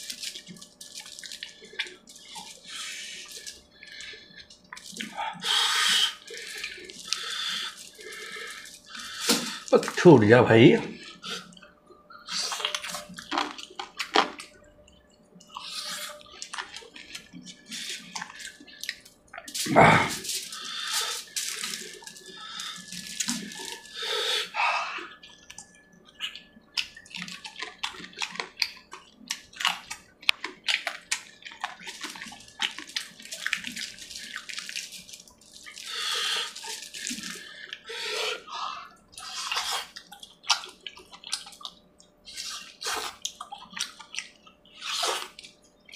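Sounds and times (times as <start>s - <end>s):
person chewing food: 0.0s - 10.0s, 10.9s - 45.9s
wet smacks and mouth clicks: 0.0s - 10.0s, 11.2s - 14.5s, 15.5s - 24.1s, 24.9s - 38.4s, 39.1s - 45.6s.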